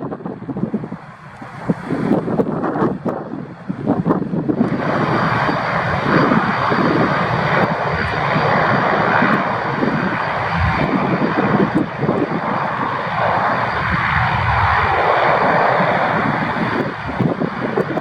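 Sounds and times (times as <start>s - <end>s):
turboprop engines roaring: 0.0s - 18.0s.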